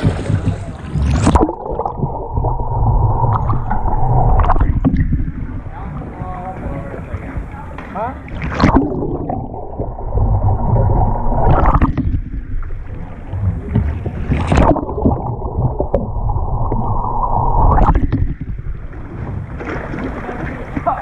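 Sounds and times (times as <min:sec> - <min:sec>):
muffled water sloshing: 0:00.0 - 0:21.0
paddle splashes: 0:00.0 - 0:21.0.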